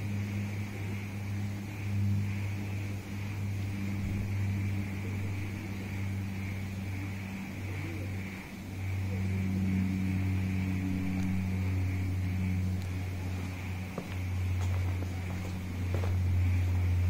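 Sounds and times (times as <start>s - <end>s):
high hiss: 0.0s - 17.0s
low machine hum: 0.0s - 17.0s.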